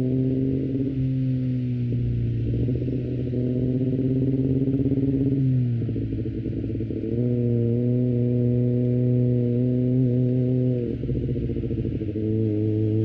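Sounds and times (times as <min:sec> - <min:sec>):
motorcycle engine under steady throttle: 0:00.0 - 0:13.0.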